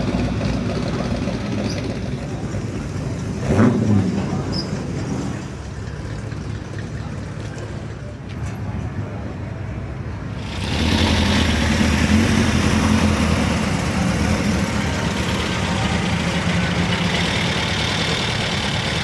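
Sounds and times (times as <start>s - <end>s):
car engine rumbling: 0.0s - 8.9s, 9.9s - 19.0s.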